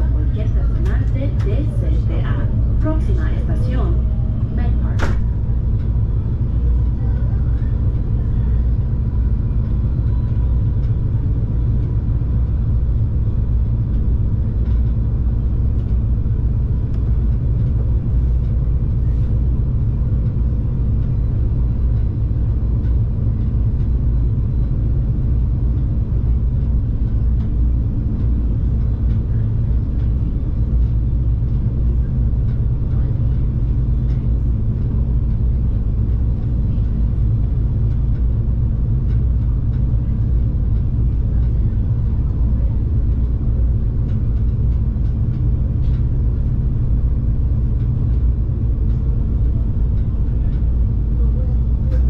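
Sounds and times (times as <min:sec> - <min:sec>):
constant hum: 0:00.0 - 0:52.0
diesel train rumble: 0:00.0 - 0:52.0.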